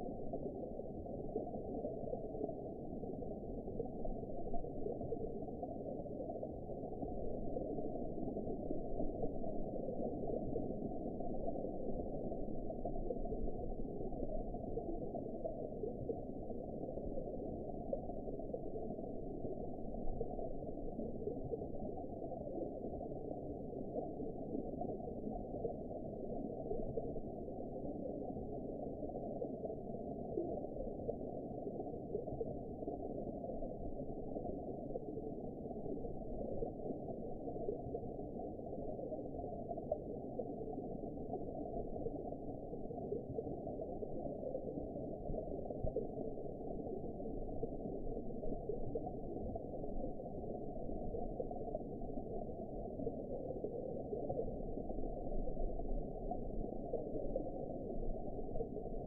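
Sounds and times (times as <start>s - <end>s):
muffled underwater wash: 0.0s - 59.0s.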